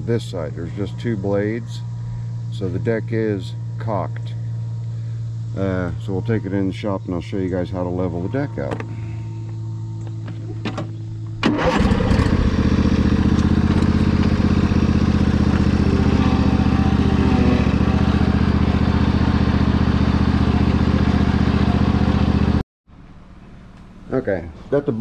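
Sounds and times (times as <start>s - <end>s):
riding mower engine running: 0.0s - 22.6s.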